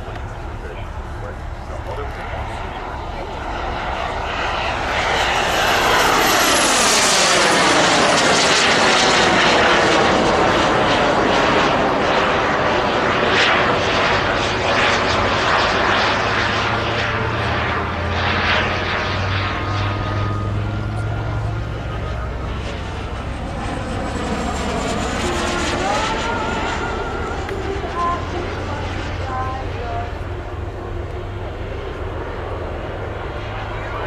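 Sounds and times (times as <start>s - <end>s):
model jet turbine whine: 0.0s - 34.0s.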